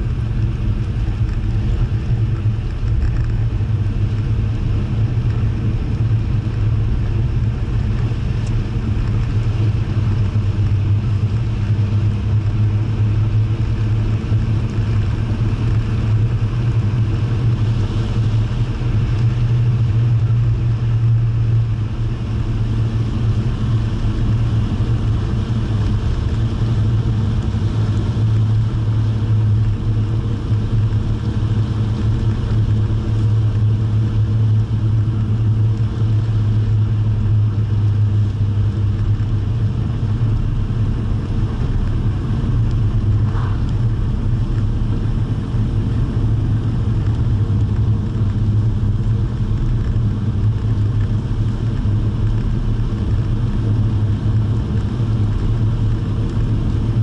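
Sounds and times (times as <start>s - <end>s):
car engine drone: 0.0s - 57.0s
road and wind noise: 0.0s - 57.0s.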